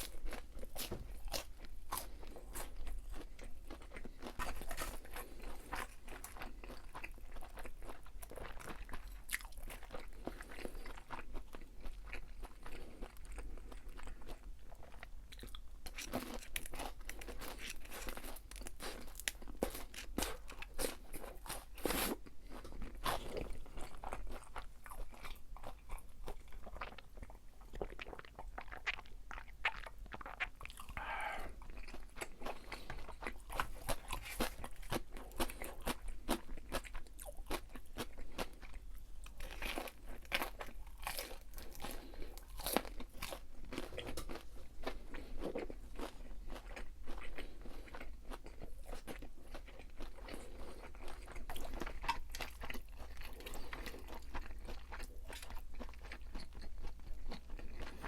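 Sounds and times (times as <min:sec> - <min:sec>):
chewing crispy fried food: 0:00.0 - 0:58.0.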